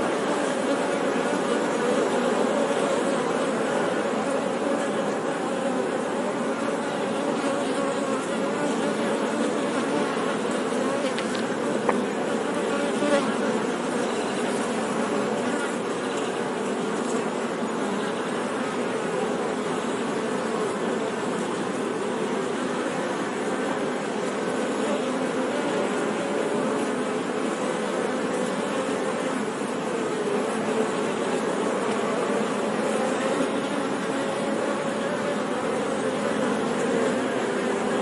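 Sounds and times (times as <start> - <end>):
bees buzzing: 0.0 - 38.0.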